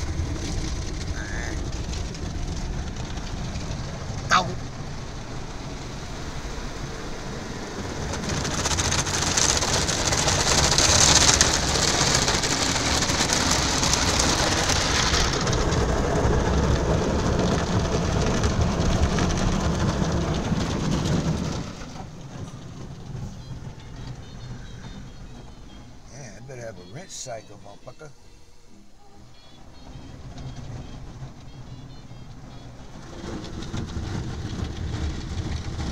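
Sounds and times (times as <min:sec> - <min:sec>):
water jets drumming on car: 0:00.0 - 0:28.1, 0:29.2 - 0:35.9.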